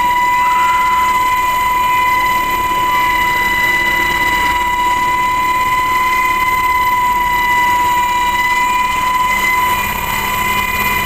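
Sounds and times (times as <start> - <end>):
helicopter rotor and turbine noise: 0.0 - 11.0.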